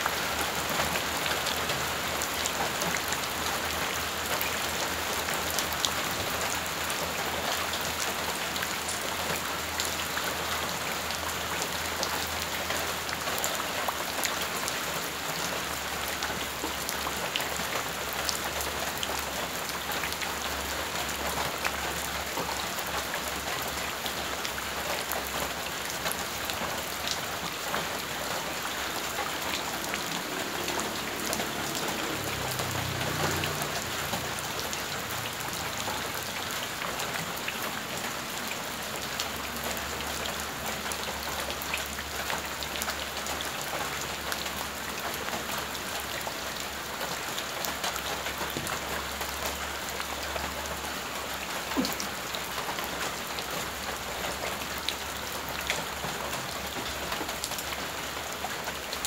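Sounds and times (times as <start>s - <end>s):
rain falling on puddles: 0.0s - 59.0s.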